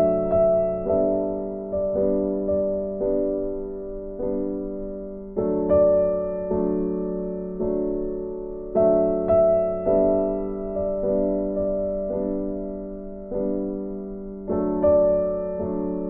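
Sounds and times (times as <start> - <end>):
soft piano tune: 0.0 - 16.0.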